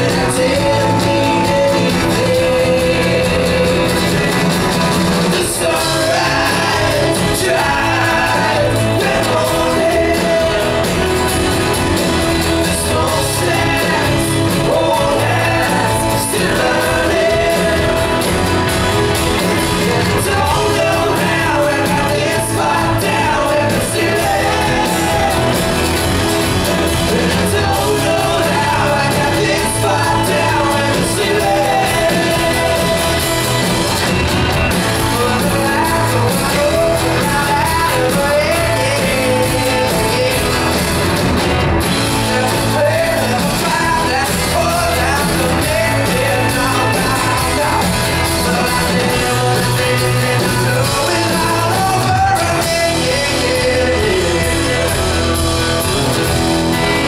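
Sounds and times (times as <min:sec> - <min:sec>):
drum kit beat: 0:00.0 - 0:57.0
lead vocalist singing: 0:00.0 - 0:57.0
live rock band playing: 0:00.0 - 0:57.0.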